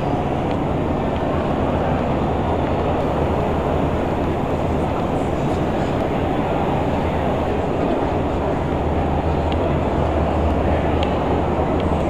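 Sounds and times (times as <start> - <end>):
hall background rumble: 0.0 - 12.0.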